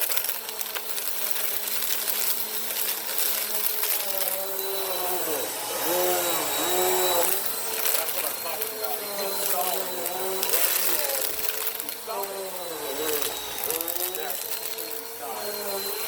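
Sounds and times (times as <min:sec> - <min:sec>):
gritty clicks of debris: 0:00.0 - 0:05.4, 0:06.0 - 0:16.0
vacuum cleaner running: 0:00.0 - 0:16.0.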